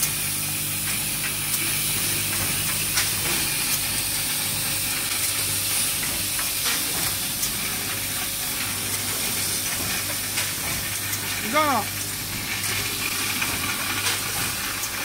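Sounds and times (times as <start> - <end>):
packaging machine hiss and hum: 0.0 - 15.0.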